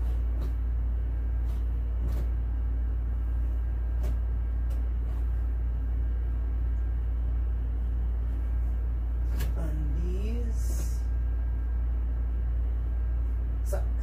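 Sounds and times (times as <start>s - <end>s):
washing machine hum: 0.0s - 14.0s.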